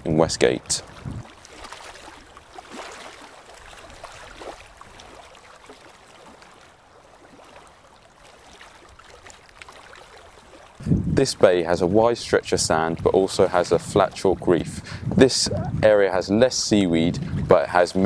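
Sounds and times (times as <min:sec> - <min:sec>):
water: 0:00.0 - 0:18.0.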